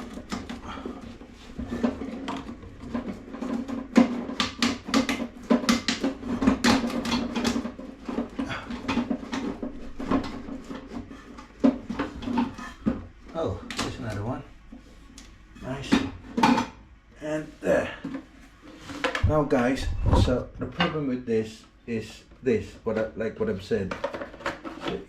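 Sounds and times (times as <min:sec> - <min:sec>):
clicks knocks and scraping of parts: 0:00.0 - 0:16.8, 0:18.0 - 0:19.4, 0:22.8 - 0:25.0.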